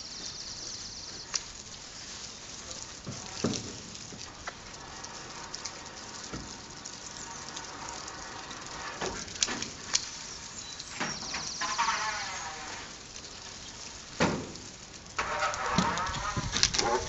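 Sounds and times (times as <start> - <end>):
water spattering down: 0.0 - 17.0.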